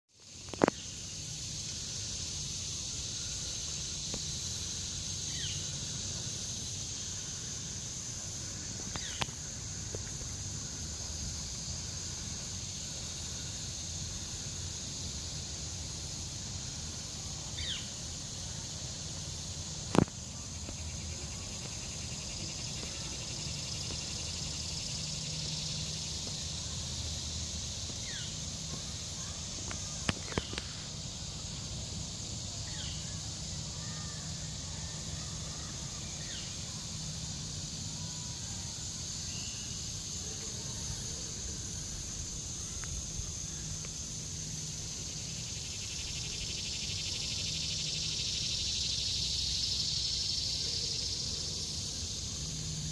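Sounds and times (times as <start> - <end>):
insects chorus: 0.1 - 52.9.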